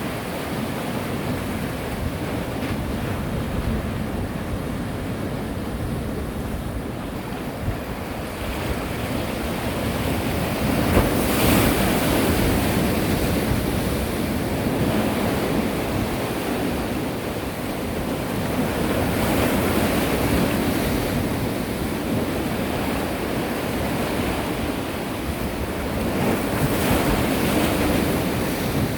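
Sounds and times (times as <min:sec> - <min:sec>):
sea waves washing in: 0:00.0 - 0:28.9
wind buffeting microphone: 0:00.0 - 0:28.9.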